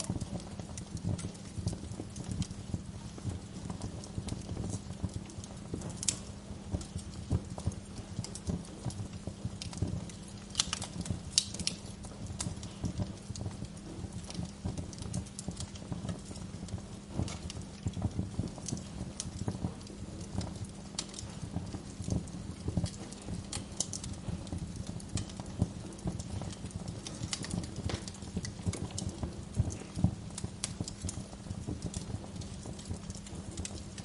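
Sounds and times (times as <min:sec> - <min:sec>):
low steady rumble: 0:00.0 - 0:34.0
wood fire crackling: 0:00.0 - 0:34.0.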